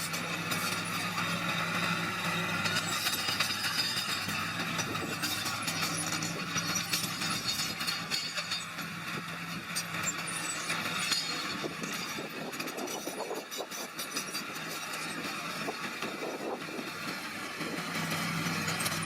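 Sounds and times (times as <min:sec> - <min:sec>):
bulldozer diesel engine: 0:00.0 - 0:19.0
tracks clanking and rattling: 0:00.0 - 0:19.0.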